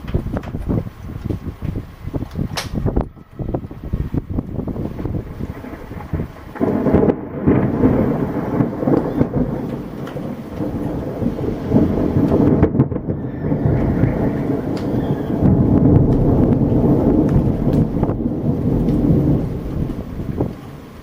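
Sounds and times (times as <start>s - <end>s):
rain: 0.0s - 21.0s
thunder rumbling: 0.0s - 21.0s.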